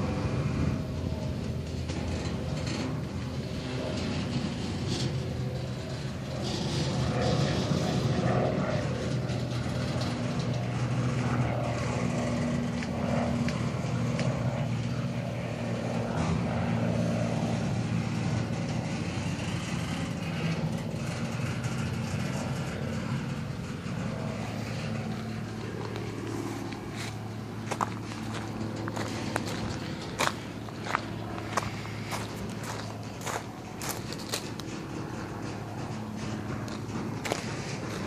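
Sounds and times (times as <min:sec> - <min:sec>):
freight train rumbling: 0:00.0 - 0:38.0.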